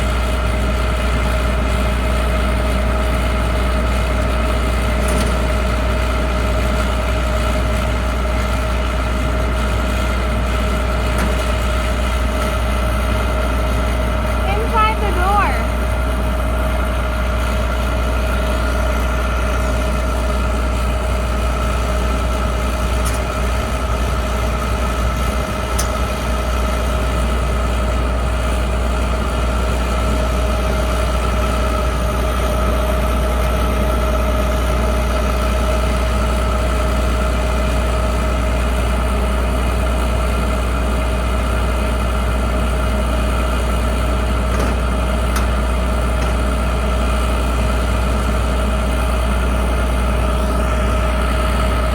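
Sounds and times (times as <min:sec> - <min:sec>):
diesel machine engine drone: 0:00.0 - 0:51.9
steady machine whine: 0:00.1 - 0:39.5, 0:40.1 - 0:51.9.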